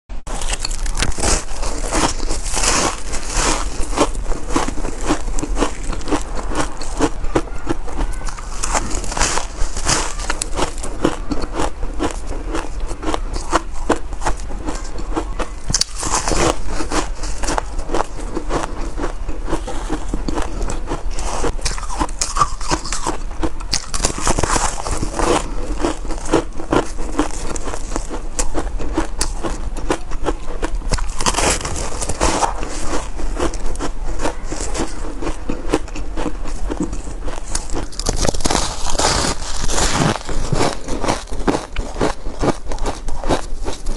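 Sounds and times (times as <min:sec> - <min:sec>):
chewing shaved ice: 0:00.3 - 0:43.9.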